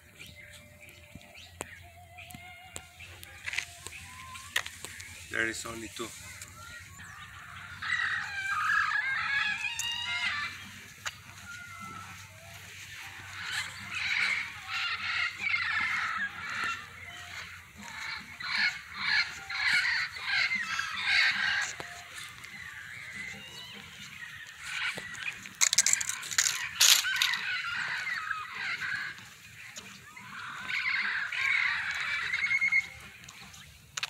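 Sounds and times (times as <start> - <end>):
parrots squawking: 1.6 - 34.0.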